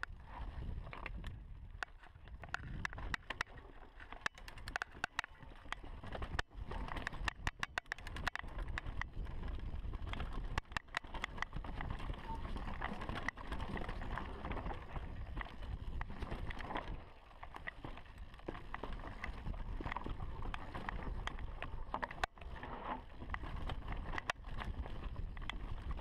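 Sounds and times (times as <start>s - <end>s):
sharp bike clicks: 1.2s - 26.0s.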